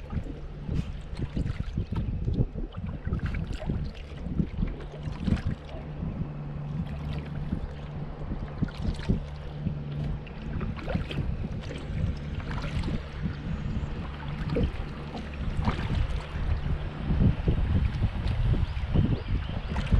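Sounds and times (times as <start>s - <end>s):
steady low hum: 0.0s - 19.9s
water lapping against kayak hull: 0.0s - 19.9s
wind on microphone: 0.0s - 19.9s.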